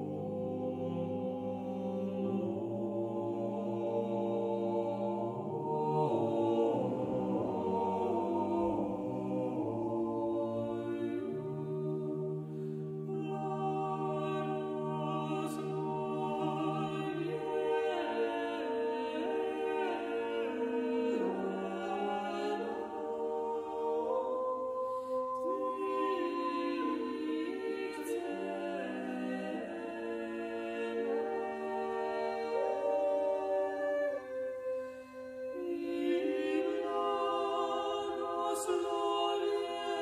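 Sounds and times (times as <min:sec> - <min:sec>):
a cappella choir singing: 0:00.0 - 0:40.0.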